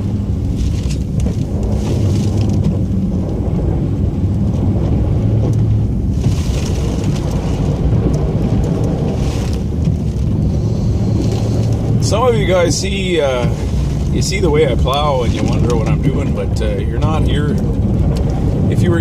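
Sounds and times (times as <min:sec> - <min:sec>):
truck engine running steadily: 0:00.0 - 0:19.0.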